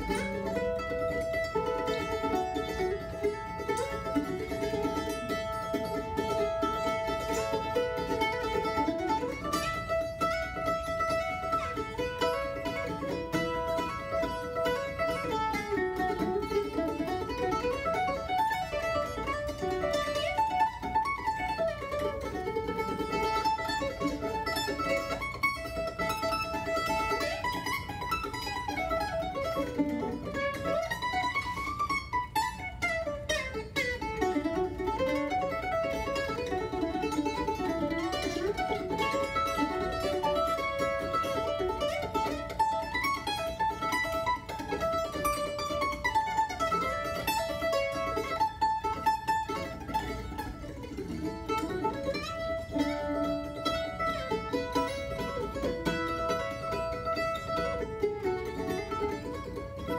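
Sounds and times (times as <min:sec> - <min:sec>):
mandolin melody: 0:00.0 - 0:59.9.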